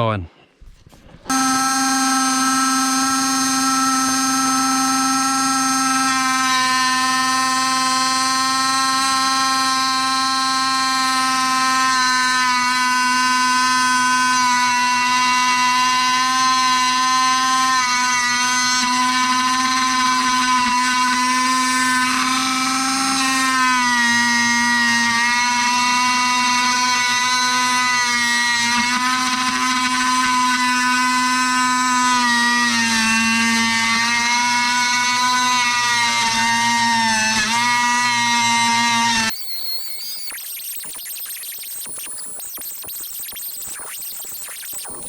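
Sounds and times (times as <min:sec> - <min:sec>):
milling machine motor whine: 0:01.2 - 0:45.0.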